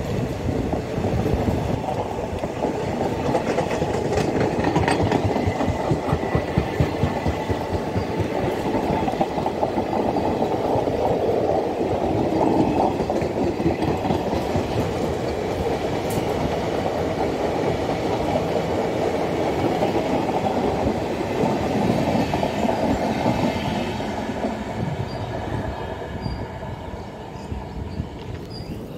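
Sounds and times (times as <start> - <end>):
train wheels clattering on rails: 0.0 - 26.8.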